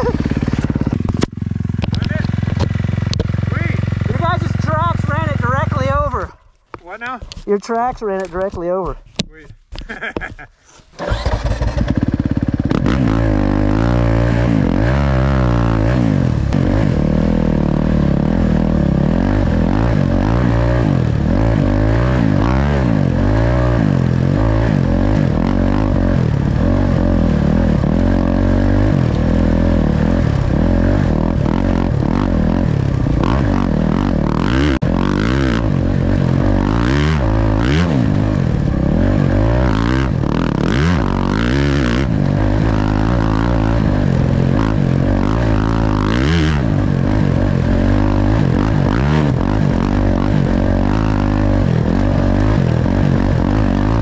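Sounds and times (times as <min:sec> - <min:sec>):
dirt bike engine revving: 0:00.0 - 0:06.4, 0:11.0 - 0:54.0.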